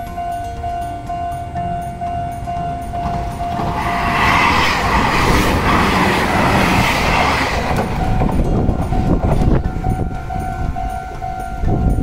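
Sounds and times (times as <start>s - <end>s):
crossing warning bell dinging: 0.0s - 12.0s
train wheels on rails: 0.0s - 12.0s.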